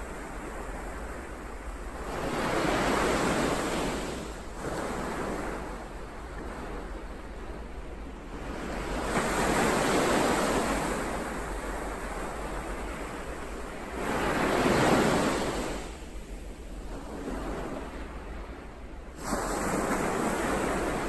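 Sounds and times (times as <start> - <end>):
ocean waves: 0.0 - 21.0.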